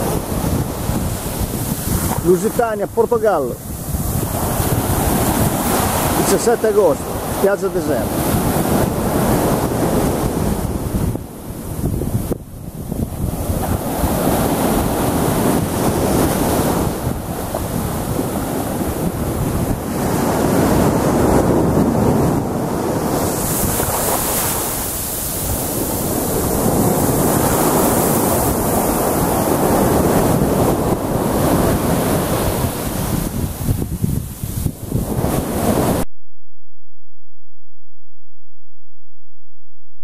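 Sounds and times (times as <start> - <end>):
surf breaking on beach: 0.0 - 36.1
wind buffeting microphone: 0.0 - 36.1.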